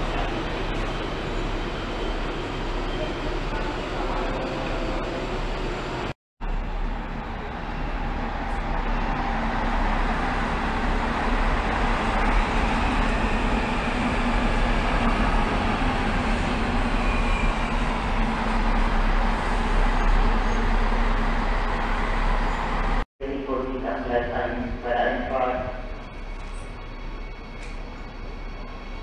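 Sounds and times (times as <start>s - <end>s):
train rumble and hiss: 0.0s - 29.0s.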